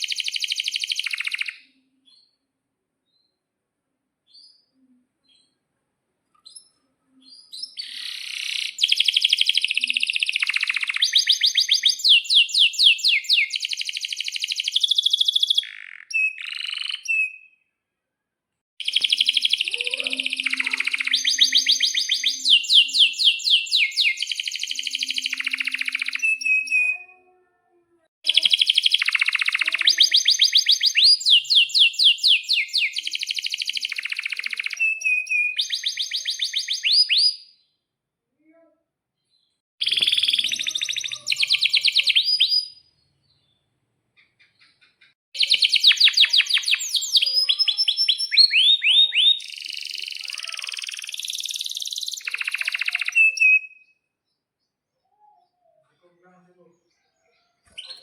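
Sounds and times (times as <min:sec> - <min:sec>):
canary singing trills: 0:00.0 - 0:02.4, 0:06.5 - 0:17.6, 0:18.8 - 0:27.4, 0:28.2 - 0:37.7, 0:39.8 - 0:43.6, 0:44.2 - 0:58.0.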